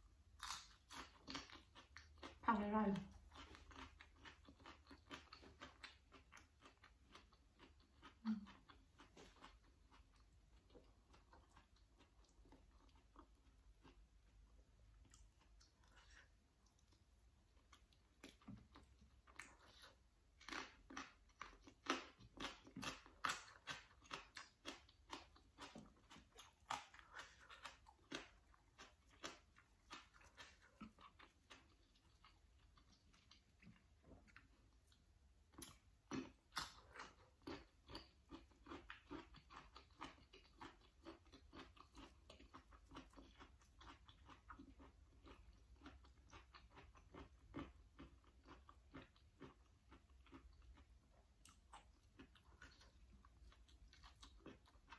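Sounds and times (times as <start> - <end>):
crunchy vegetable chewing: 0.2 - 54.9.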